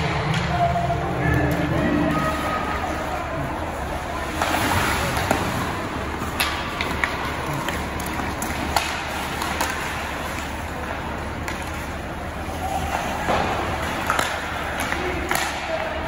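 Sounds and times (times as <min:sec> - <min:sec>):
hockey sticks and puck clacking: 0:00.0 - 0:03.2, 0:03.8 - 0:16.0.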